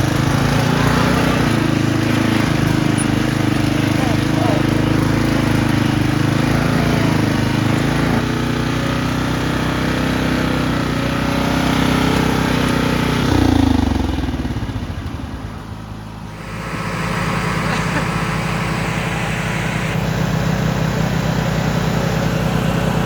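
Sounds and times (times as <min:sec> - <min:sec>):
riding lawnmower engine running: 0:00.0 - 0:23.0.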